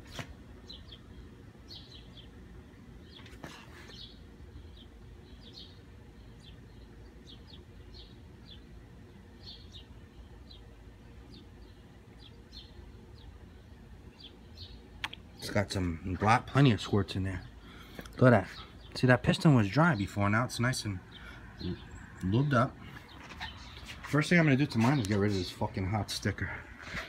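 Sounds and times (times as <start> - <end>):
low background noise: 0.0 - 27.0
small birds chirping: 0.0 - 27.0.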